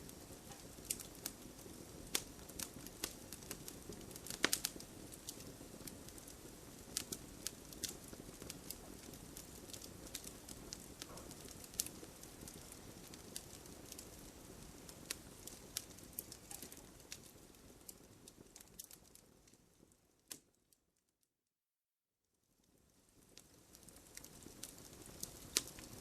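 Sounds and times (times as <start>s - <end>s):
campfire flames rushing: 0.0s - 19.3s, 23.1s - 26.0s
fire crackling and popping: 0.0s - 20.8s, 22.5s - 26.0s.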